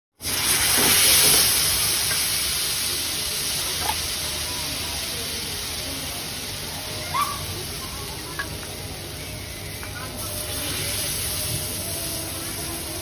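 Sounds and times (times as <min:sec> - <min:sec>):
batter sizzling on a hot griddle: 0:00.2 - 0:13.0.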